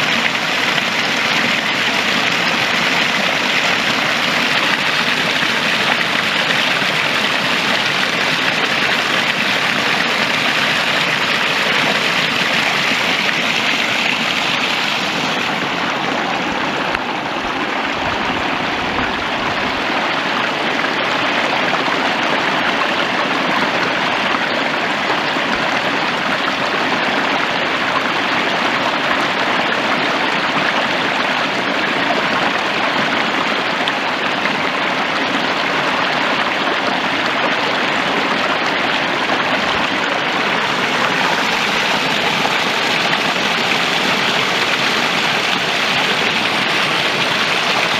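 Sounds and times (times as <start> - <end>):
stream flowing water: 0.0 - 47.9.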